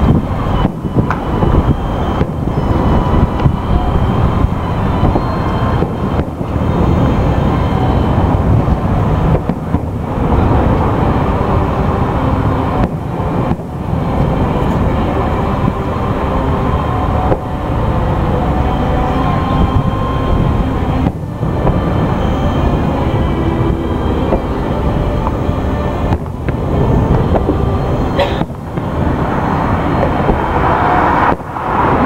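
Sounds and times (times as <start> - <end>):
distant fireworks rumble: 0.0 - 32.0.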